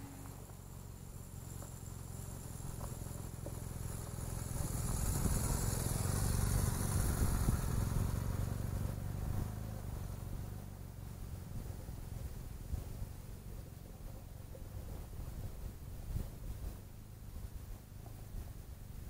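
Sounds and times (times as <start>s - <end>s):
motorcycle engine passing by: 0.0s - 17.8s.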